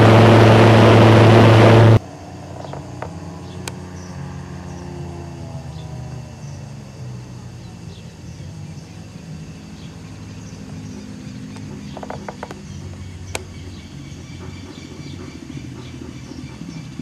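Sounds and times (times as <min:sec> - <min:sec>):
aircraft engine and propeller drone: 0:00.0 - 0:17.0.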